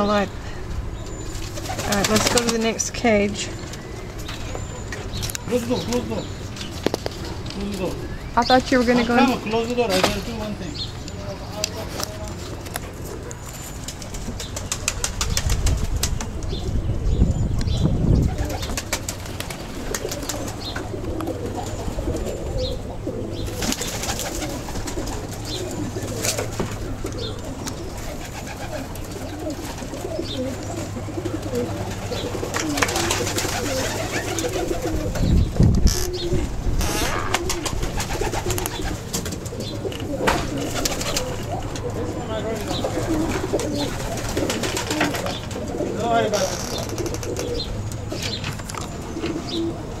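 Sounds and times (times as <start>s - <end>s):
pigeons cooing: 0.0s - 50.0s.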